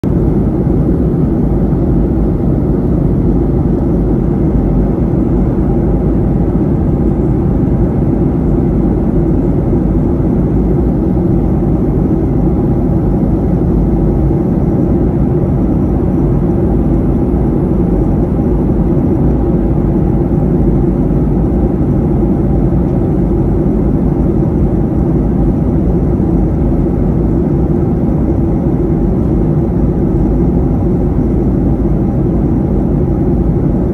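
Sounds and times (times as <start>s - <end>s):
jet airliner cabin noise: 0.0s - 33.9s.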